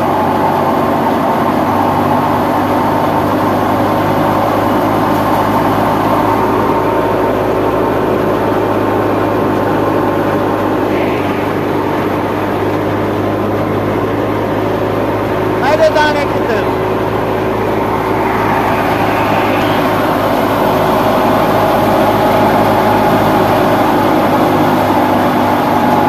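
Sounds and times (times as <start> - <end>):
thresher mechanical drone: 0.0 - 26.0.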